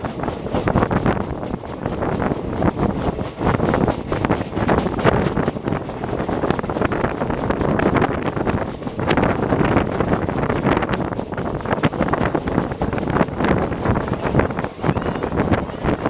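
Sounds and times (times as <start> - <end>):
train coach rumbling: 0.0 - 16.0
wind buffeting microphone: 0.0 - 16.0.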